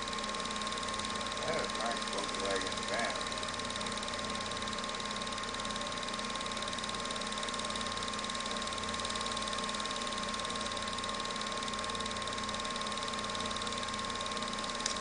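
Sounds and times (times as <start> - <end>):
film projector whirring and ticking: 0.0 - 15.0.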